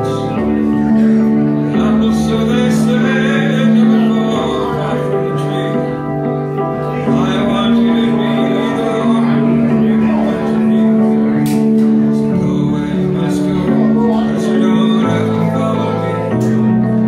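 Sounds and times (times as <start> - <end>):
electronic keyboard chords: 0.0 - 17.0.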